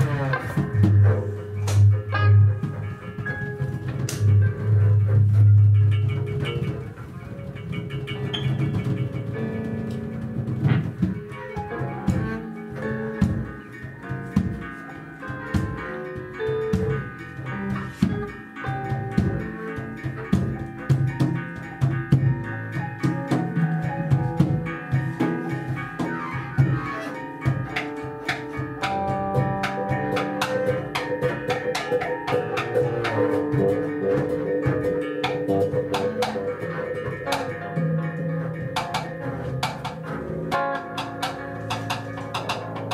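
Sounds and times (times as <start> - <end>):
double bass: 0.0 - 42.9
electric guitar: 0.0 - 42.9
percussion clattering hits: 0.0 - 42.9.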